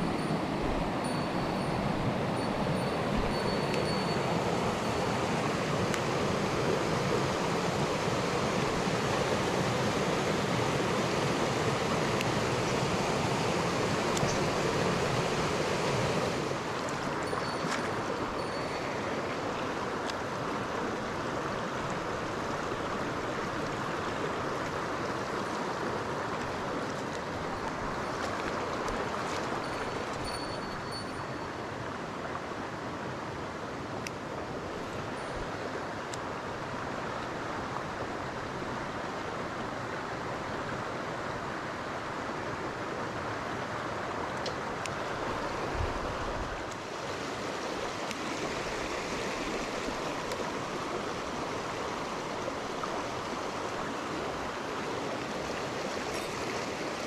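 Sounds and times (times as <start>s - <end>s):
stream rushing over boulders: 0.0s - 57.0s.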